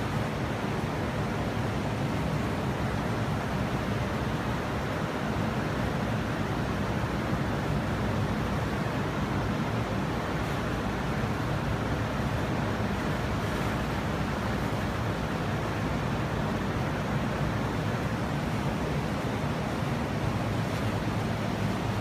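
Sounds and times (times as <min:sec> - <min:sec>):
air conditioning units running: 0:00.0 - 0:22.0.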